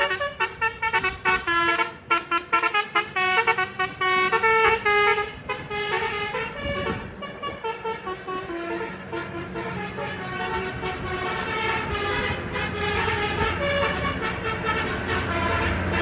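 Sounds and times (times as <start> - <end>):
bus engine rumbling: 0.0 - 16.0
multi-trumpet air horn tune: 0.0 - 16.0.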